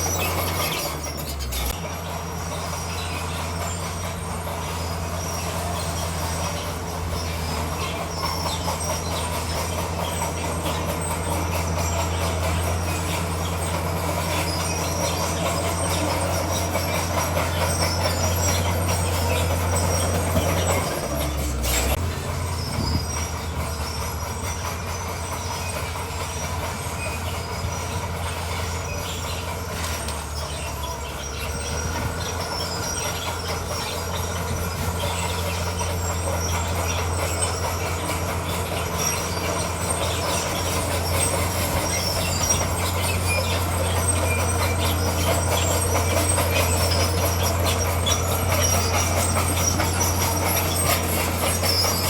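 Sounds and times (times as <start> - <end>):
bulldozer diesel engine running: 0.0 - 52.0
steel tracks squealing and clanking: 0.0 - 52.0.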